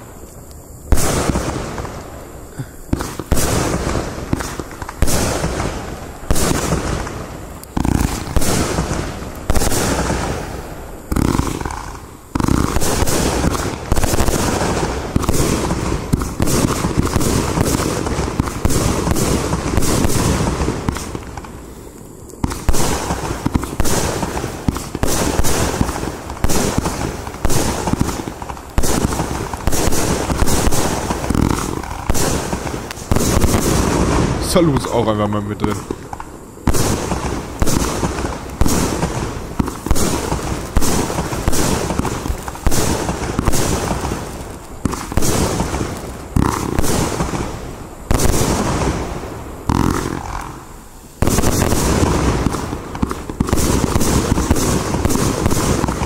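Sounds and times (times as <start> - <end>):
fireworks launching and bursting: 0.0 - 56.0.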